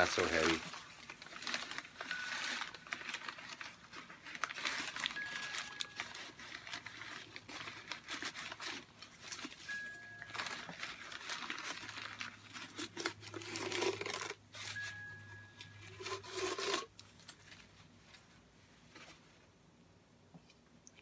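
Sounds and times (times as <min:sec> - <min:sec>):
paper wrapping crinkling and tearing: 0:00.0 - 0:18.2.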